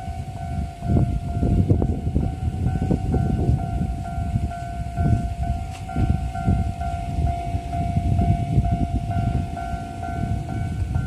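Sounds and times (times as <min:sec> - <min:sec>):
level crossing warning bell dinging: 0:00.0 - 0:11.0
low rumbling noise: 0:00.0 - 0:11.0.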